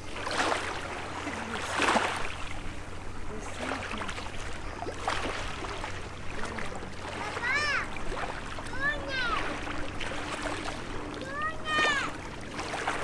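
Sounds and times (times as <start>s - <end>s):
small waves lapping: 0.0s - 13.0s.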